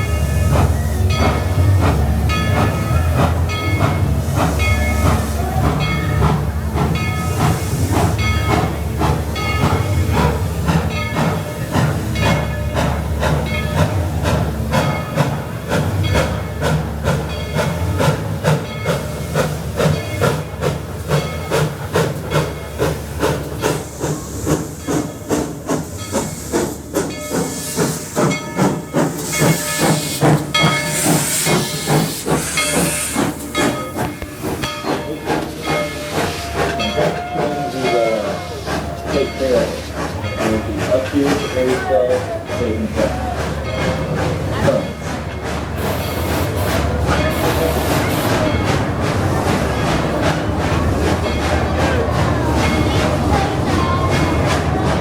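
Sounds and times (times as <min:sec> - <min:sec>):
steam hissing: 0:00.0 - 0:55.0
steam locomotive exhaust beat: 0:00.0 - 0:55.0.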